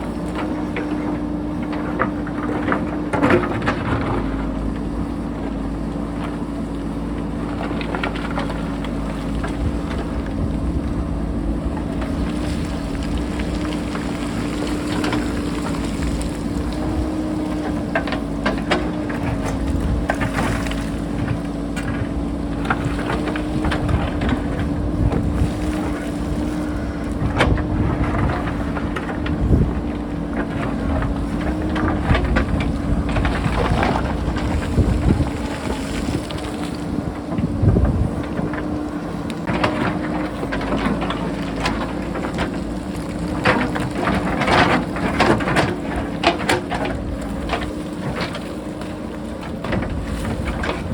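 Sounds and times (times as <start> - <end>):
backhoe engine humming: 0.0 - 50.9.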